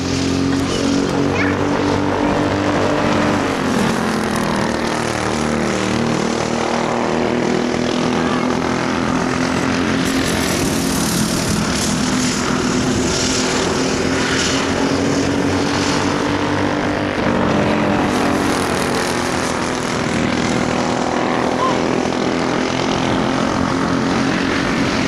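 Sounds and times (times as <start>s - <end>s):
go-kart engines racing: 0.0s - 25.0s.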